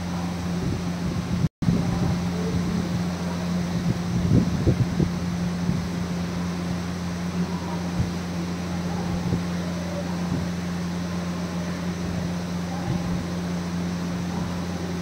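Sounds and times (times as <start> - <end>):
ventilation humming: 0.0 - 15.0.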